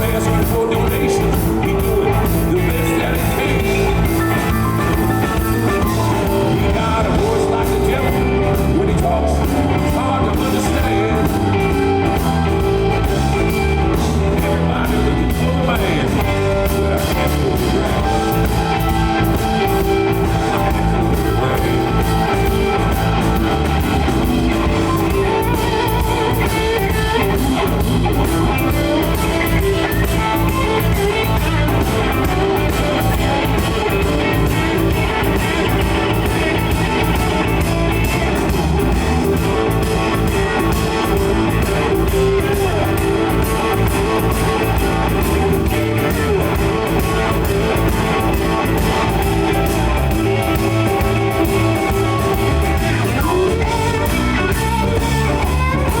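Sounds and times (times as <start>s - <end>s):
bass guitar: 0.0s - 56.0s
drums: 0.0s - 56.0s
electric guitar: 0.0s - 56.0s.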